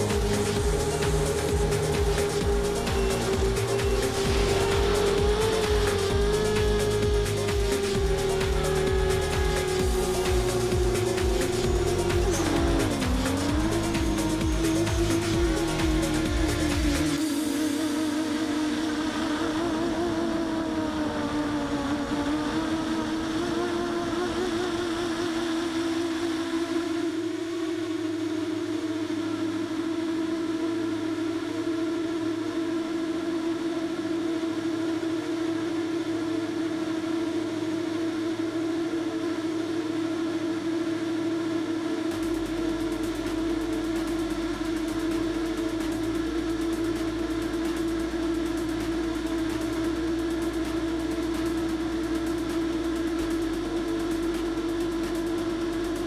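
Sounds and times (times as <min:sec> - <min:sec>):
quadcopter motors droning: 0:00.0 - 0:56.0.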